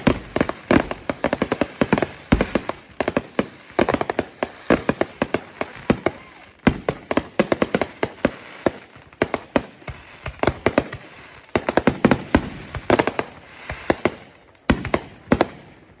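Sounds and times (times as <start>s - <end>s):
fireworks hiss: 0.0s - 6.8s, 7.5s - 9.1s, 9.7s - 14.3s
fireworks bangs and crackles: 0.0s - 16.0s.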